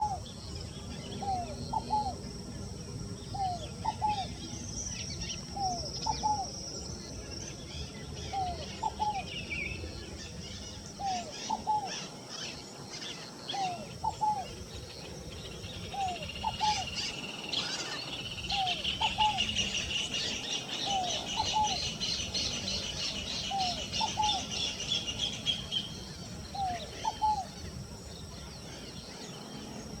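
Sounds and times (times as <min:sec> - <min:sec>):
dove singing low phrase: 0:00.0 - 0:30.0.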